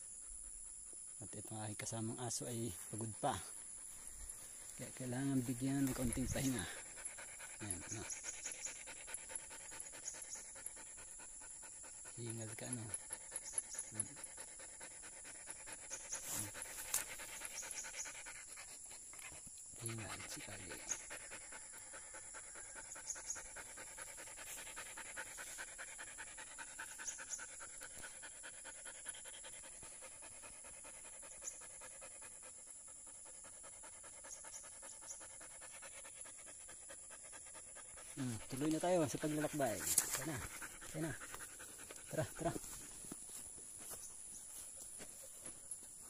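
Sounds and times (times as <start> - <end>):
dog panting fast: 2.6 - 46.0.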